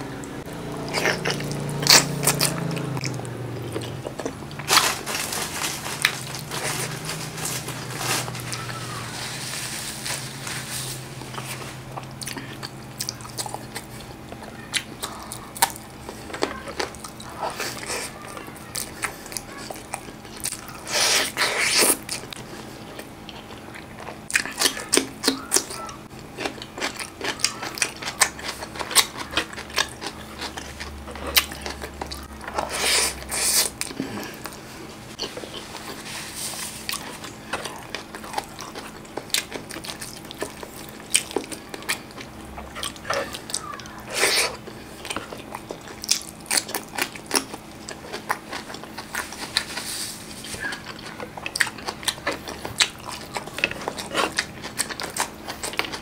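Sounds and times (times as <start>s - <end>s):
wet chewing: 0.1s - 56.0s.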